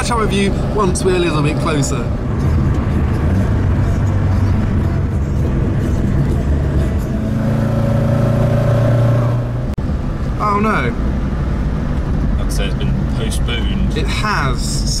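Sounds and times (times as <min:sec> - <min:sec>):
car engine while driving: 0:00.0 - 0:15.0
road noise: 0:00.0 - 0:15.0.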